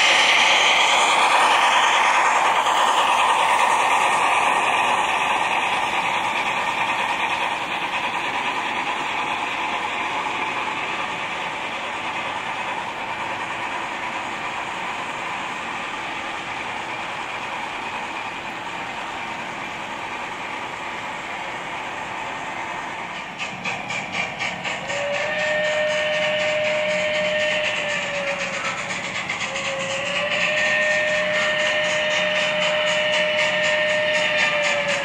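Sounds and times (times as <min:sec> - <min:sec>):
model steam locomotive sound: 0:00.0 - 0:35.0.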